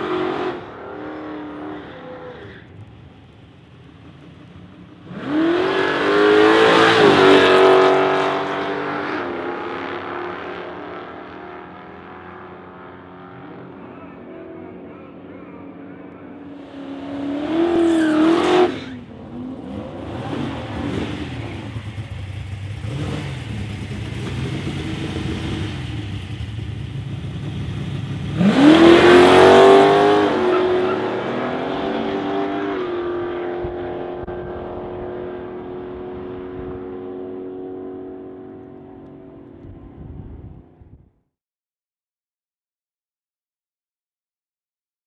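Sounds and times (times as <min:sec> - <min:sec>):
car engine revving: 0:00.0 - 0:40.1.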